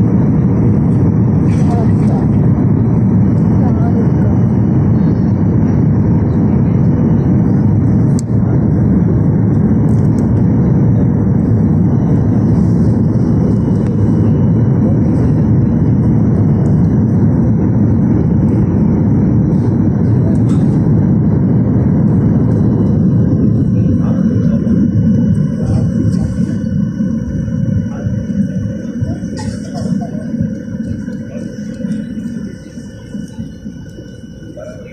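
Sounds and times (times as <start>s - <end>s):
airliner cabin engine roar: 0.0s - 34.9s.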